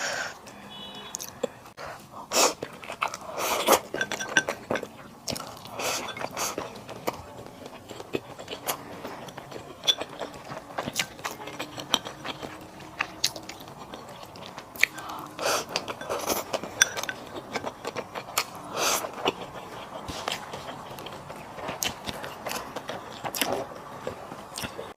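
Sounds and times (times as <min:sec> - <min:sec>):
person chewing and biting: 0:02.3 - 0:24.9.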